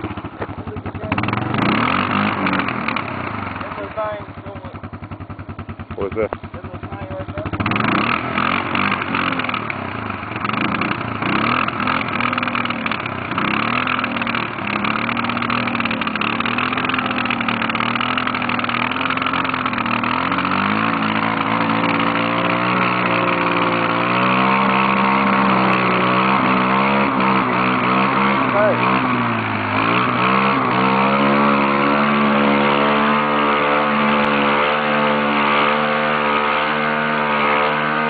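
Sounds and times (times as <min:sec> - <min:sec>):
atv engine revving: 0:00.0 - 0:38.0.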